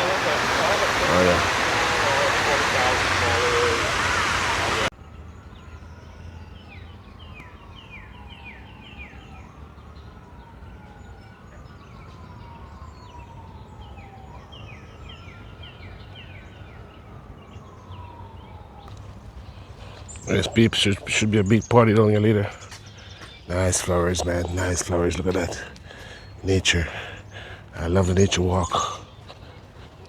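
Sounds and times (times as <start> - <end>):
distant siren wailing: 0.0 - 4.9, 5.6 - 30.0.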